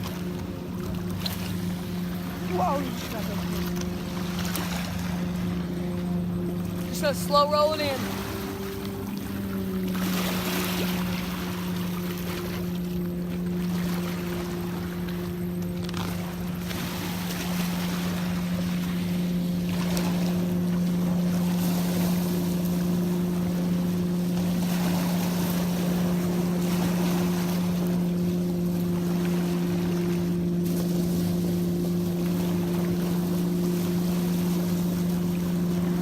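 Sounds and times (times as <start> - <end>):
motor humming: 0.0 - 36.0
water noise: 0.0 - 36.0
wind: 0.0 - 36.0.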